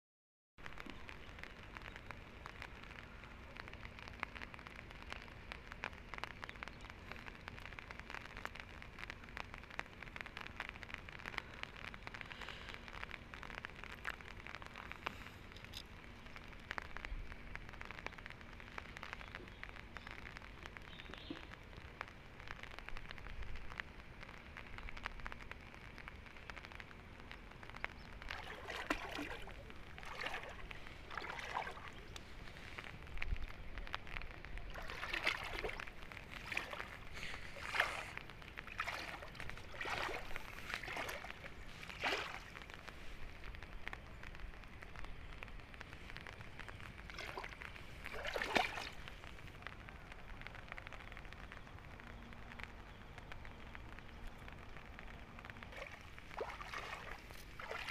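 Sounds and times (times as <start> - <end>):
rain falling: 0.6 - 57.9.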